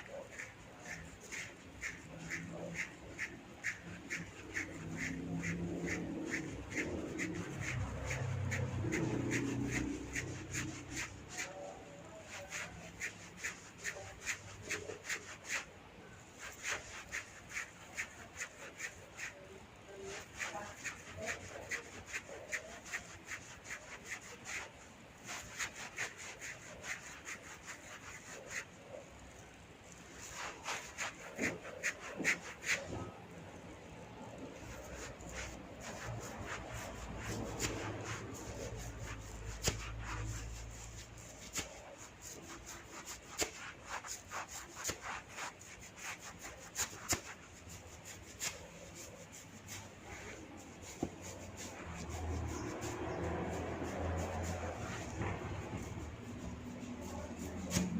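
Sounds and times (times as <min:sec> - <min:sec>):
hands rubbing hair on scalp: 0:00.0 - 0:57.9.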